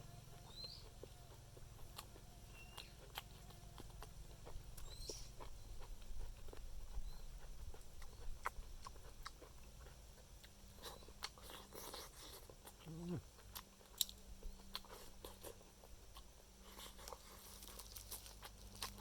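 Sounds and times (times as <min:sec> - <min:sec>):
low steady hum: 0:00.0 - 0:19.0
person chewing with mouth smacks: 0:00.3 - 0:19.0.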